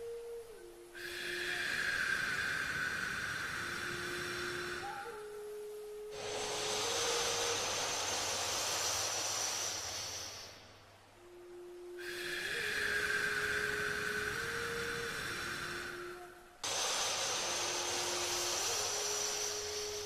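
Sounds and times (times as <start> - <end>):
soft sustained tone: 0.0 - 20.0
whistling breath out through nose: 0.9 - 10.8, 12.0 - 20.0.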